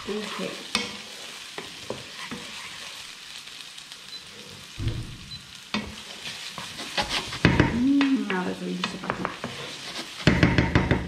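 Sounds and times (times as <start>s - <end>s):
onion sizzling in a frying pan: 0.0s - 11.0s.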